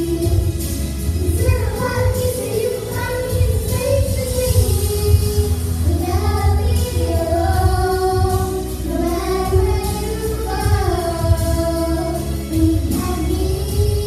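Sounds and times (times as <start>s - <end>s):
girls singing into microphones: 0.0s - 14.0s
musical accompaniment: 0.0s - 14.0s.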